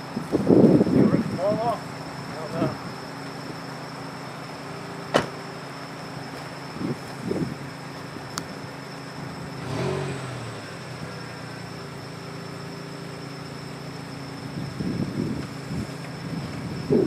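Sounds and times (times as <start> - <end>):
truck engine running and revving: 0.0 - 17.0.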